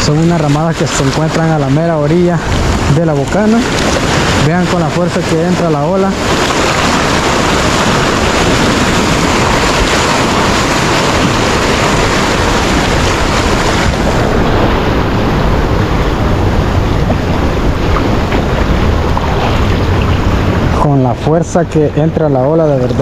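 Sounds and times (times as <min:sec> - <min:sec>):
surf churning around posts: 0:00.0 - 0:23.0
wind buffeting microphone: 0:00.0 - 0:23.0.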